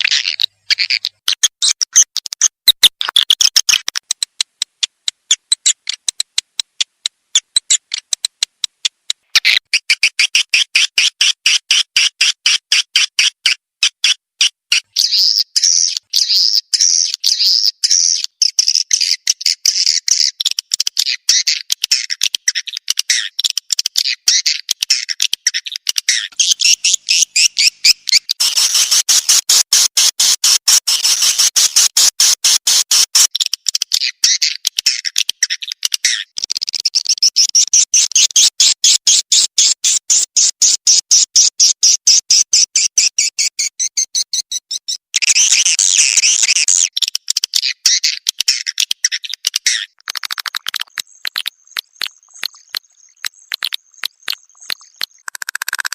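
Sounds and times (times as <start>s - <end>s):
recorded swiftlet chittering: 0.0s - 13.3s, 14.8s - 55.9s.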